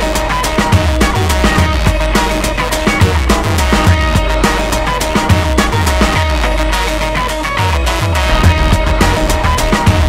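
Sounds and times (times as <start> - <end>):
sliding deep bass notes: 0.0 - 10.0
upbeat music with drum beat: 0.0 - 10.0.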